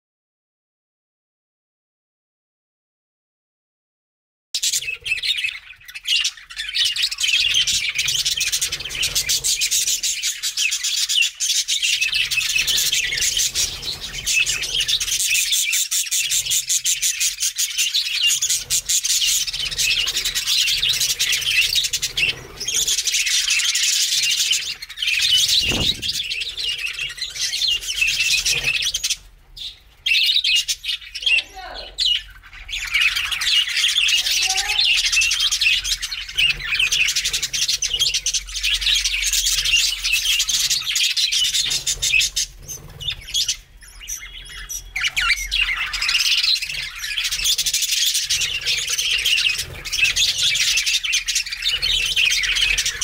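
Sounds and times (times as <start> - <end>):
budgerigars chattering and chirping: 4.6 - 53.0.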